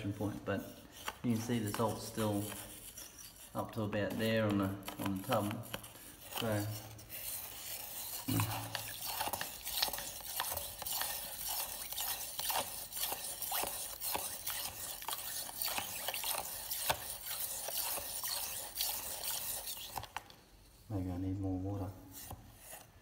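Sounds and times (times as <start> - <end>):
knife scraping and clinking in jug: 1.4 - 20.2.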